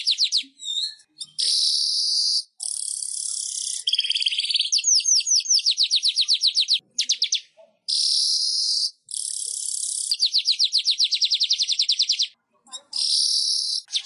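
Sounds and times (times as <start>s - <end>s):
weaver bird singing: 0.0s - 14.0s.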